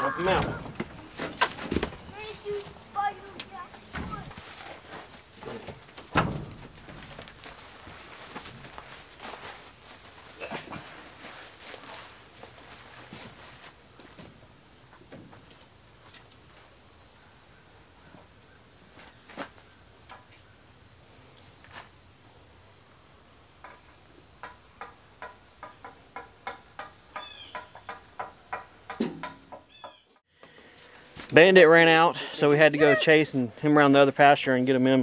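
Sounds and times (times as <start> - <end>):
insects trilling: 0.0 - 30.2, 30.8 - 35.0.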